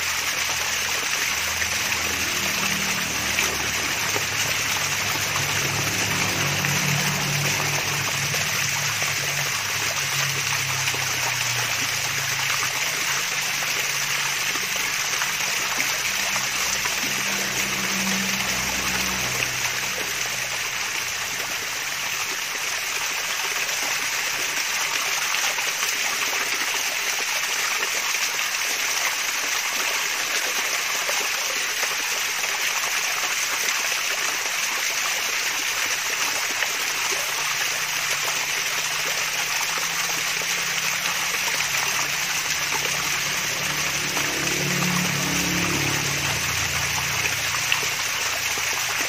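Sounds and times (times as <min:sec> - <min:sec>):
water splashing into a pool: 0:00.0 - 0:49.0.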